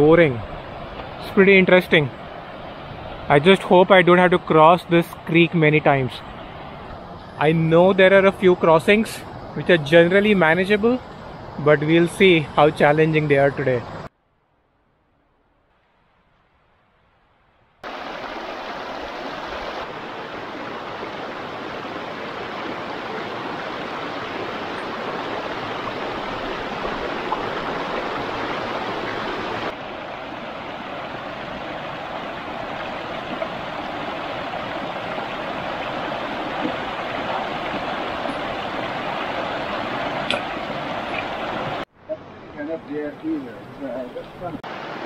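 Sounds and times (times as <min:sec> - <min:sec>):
creek rushing over rocks: 0:00.0 - 0:13.8, 0:17.8 - 0:45.0.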